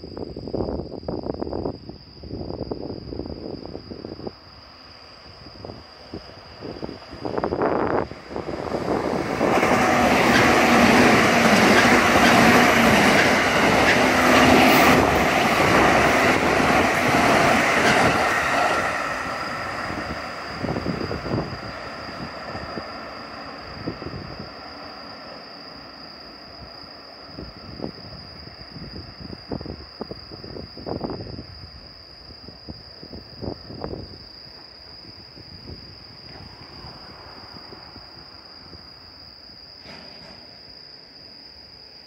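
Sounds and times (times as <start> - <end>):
electric train passing: 2.3 - 42.0.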